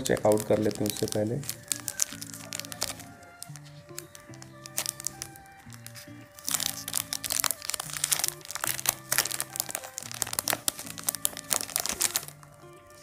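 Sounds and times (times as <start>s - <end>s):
background music: 0.0s - 13.0s
plastic packet crinkling: 0.0s - 13.0s.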